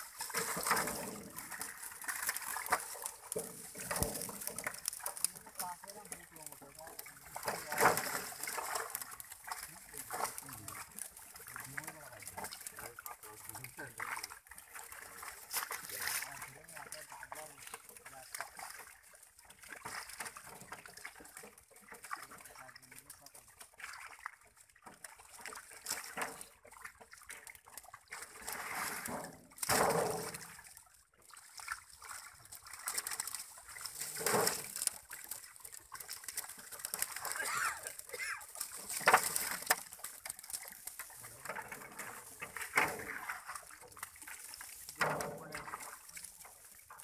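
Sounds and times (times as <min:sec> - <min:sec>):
fish thrashing at surface: 0:00.0 - 0:22.6, 0:28.1 - 0:30.8, 0:31.4 - 0:47.0
water splashing and sloshing: 0:00.0 - 0:47.0.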